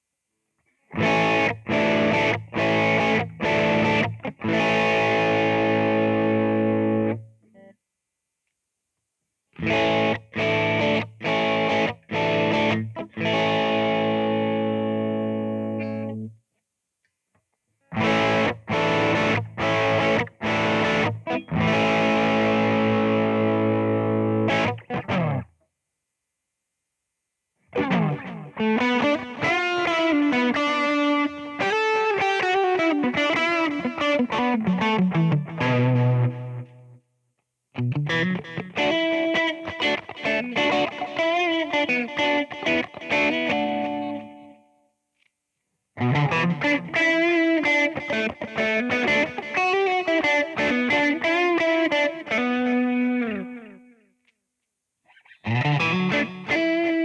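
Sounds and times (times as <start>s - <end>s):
electric guitar chords: 0.9s - 7.7s, 9.6s - 16.4s, 17.8s - 25.5s, 27.7s - 37.0s, 37.8s - 44.8s, 46.0s - 54.1s, 55.1s - 57.0s.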